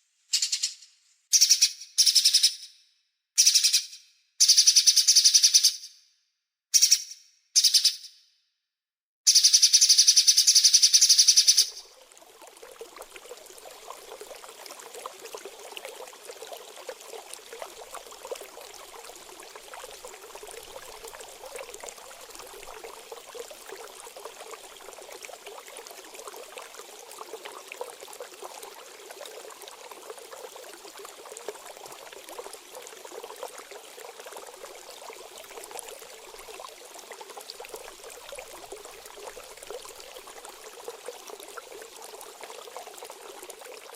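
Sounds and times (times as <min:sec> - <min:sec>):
stream water trickling: 0:03.4 - 0:06.0, 0:09.3 - 0:43.9.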